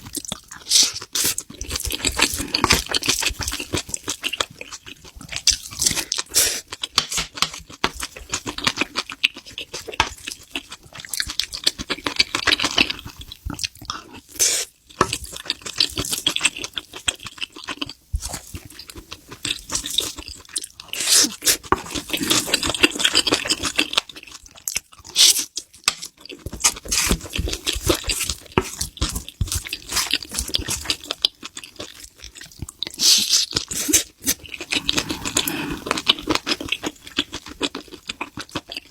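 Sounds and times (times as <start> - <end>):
chewing and crunching: 0.0 - 38.9.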